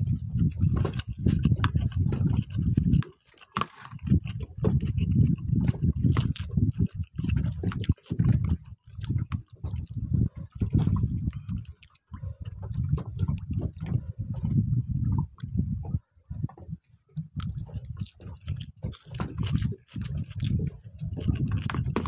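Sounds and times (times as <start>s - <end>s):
wind buffeting microphone: 0.0s - 3.1s, 3.9s - 22.0s
water sloshing: 0.0s - 22.0s.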